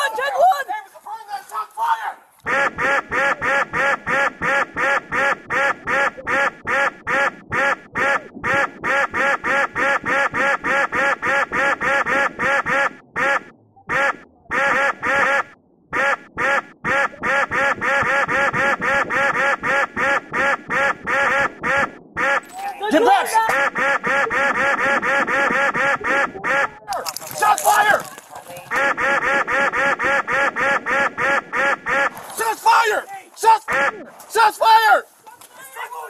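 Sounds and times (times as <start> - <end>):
duck quack sound effects: 2.4 - 32.5, 33.5 - 34.1.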